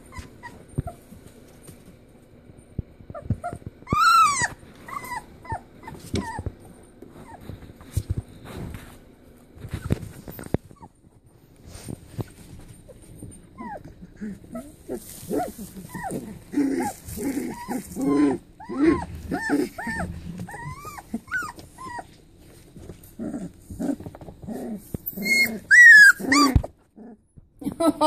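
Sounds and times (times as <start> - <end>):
puppies whining: 0.0 - 2.0, 2.6 - 8.4, 9.6 - 27.3.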